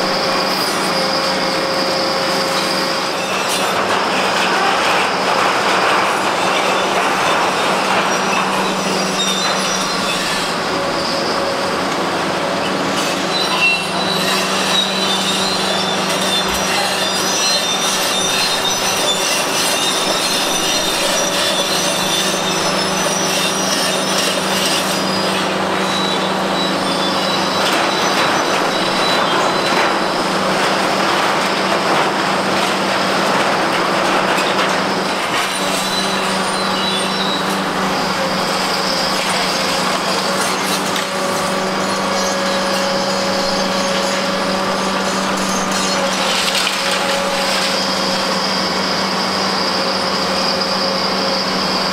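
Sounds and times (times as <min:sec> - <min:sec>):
high metallic squealing: 0:00.0 - 0:31.8, 0:33.5 - 0:51.9.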